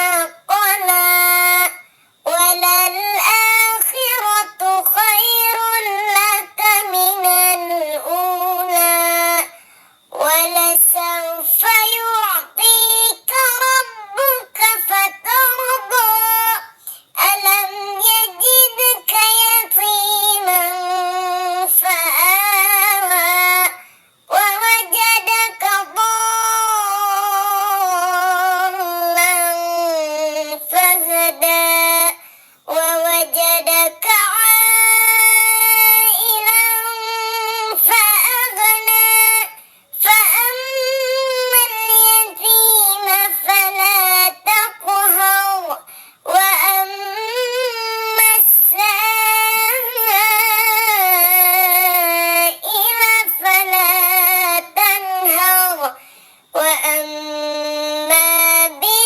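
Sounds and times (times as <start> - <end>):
child-like voice chanting recitation: 0.0 - 56.0, 56.6 - 59.0.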